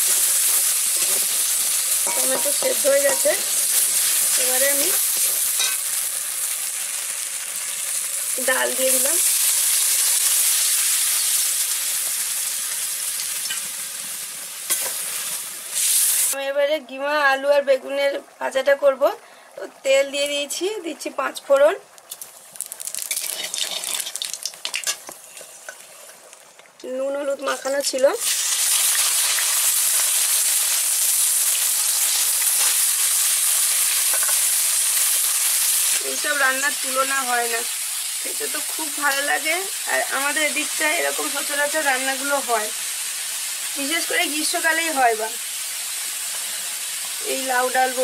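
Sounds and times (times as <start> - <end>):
lentils sizzling in hot oil: 0.0 - 16.5, 19.8 - 48.0.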